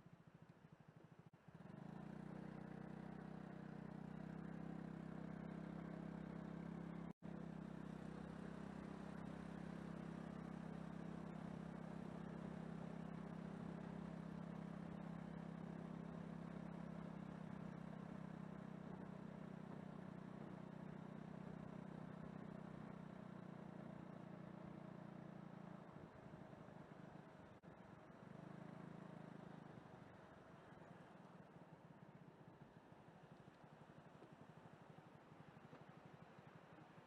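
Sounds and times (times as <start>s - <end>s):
car engine and road noise: 0.9s - 37.0s.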